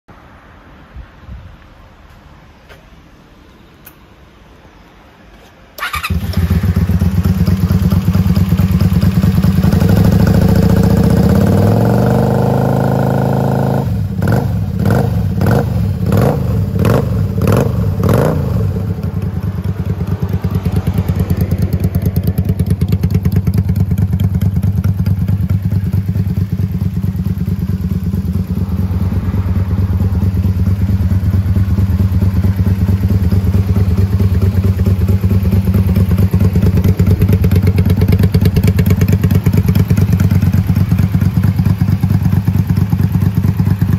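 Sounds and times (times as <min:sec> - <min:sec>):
motorcycle engine idling: 0:05.8 - 0:43.9
motorcycle engine revving: 0:05.8 - 0:43.9.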